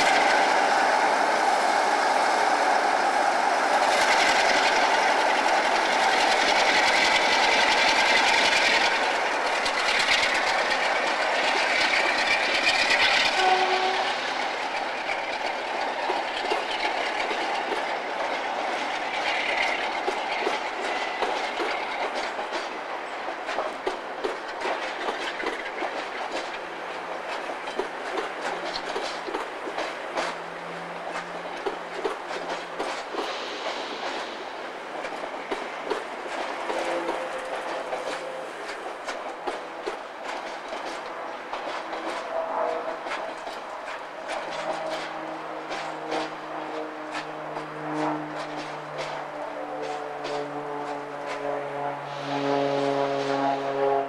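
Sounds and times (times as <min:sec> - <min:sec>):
locomotive engine and wheels: 0:00.0 - 0:53.8.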